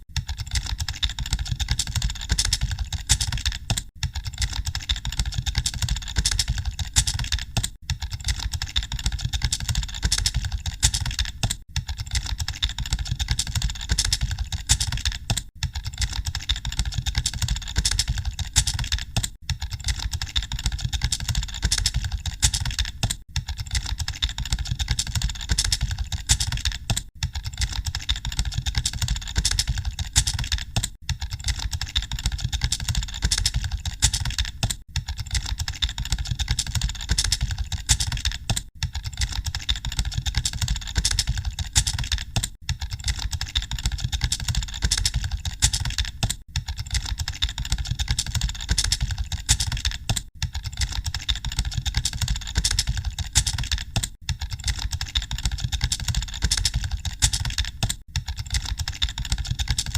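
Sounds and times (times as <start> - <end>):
keyboard typing clatter: 0.0 - 59.9.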